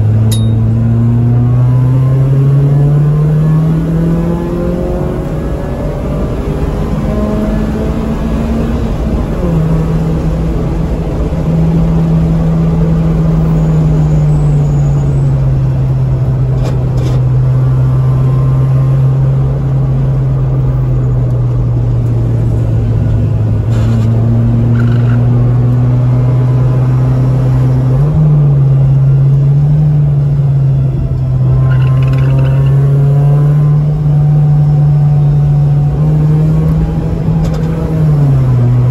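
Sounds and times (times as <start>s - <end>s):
car engine from inside cabin: 0.0s - 38.9s
tyre and road noise: 0.0s - 38.9s.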